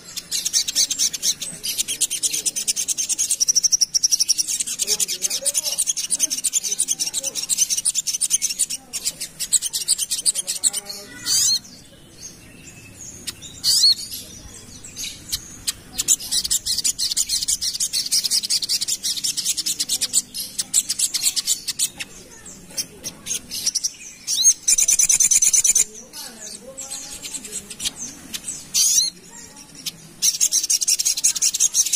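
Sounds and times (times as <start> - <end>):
bird chattering trills: 0.0 - 31.9.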